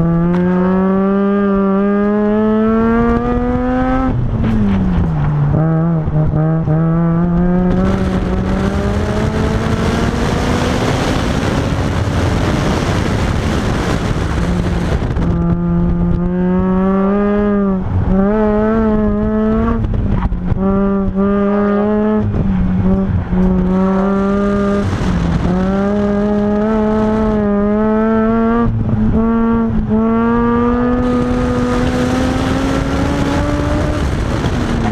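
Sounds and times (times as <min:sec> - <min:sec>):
rotary car engine revving: 0:00.0 - 0:34.9.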